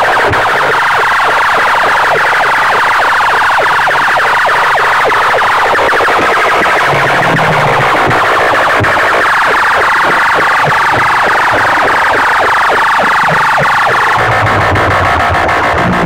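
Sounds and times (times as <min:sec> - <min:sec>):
distorted siren from horn loudspeakers: 0:00.0 - 0:16.0.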